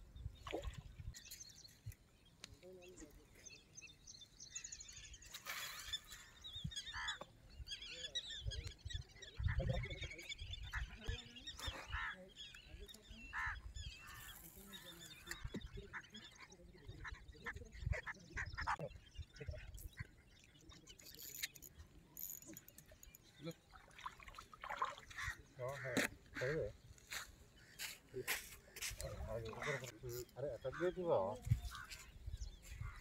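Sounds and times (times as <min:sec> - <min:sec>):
birds calling: 0:00.3 - 0:33.0.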